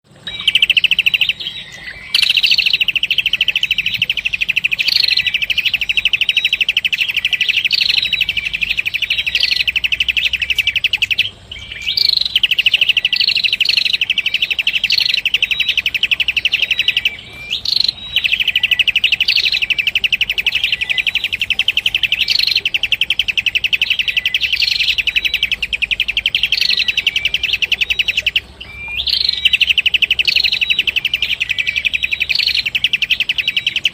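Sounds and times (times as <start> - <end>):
songbird singing fast high trill: 0.1 - 33.9.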